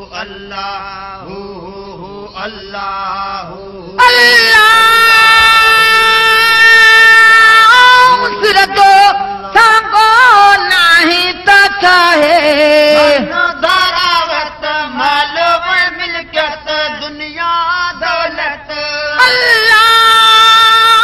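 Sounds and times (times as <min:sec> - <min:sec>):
devotional chanting song: 0:00.0 - 0:21.0.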